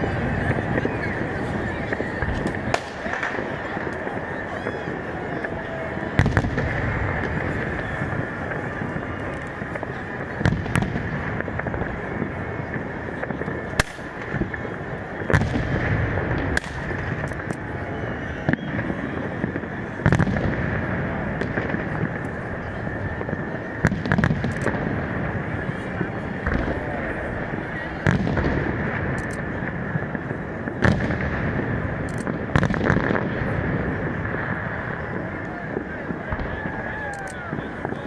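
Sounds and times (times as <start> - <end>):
fireworks bursting with bangs: 0.0 - 38.0
steady background noise: 0.0 - 38.0.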